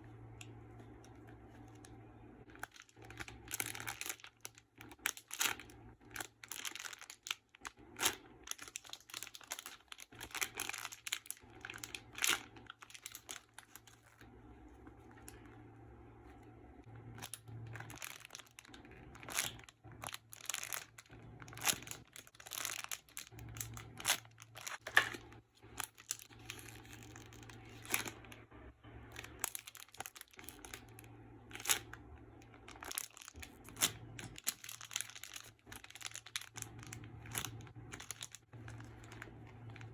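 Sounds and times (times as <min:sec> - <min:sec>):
low steady hum: 0:00.0 - 0:39.9
plastic wrapper crinkling: 0:00.1 - 0:15.7, 0:16.8 - 0:39.9.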